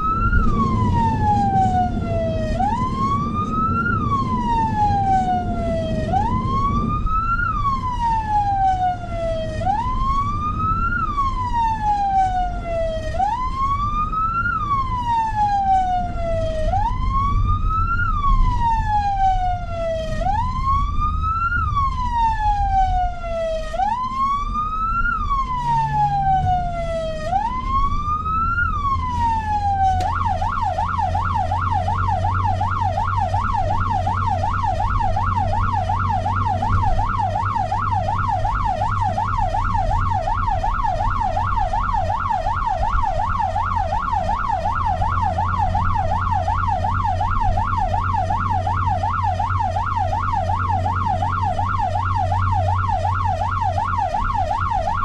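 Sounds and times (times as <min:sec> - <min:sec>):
electronic siren wailing: 0:00.0 - 0:55.0
engine and road noise: 0:00.0 - 0:55.0
fast yelp siren: 0:00.0 - 0:55.0.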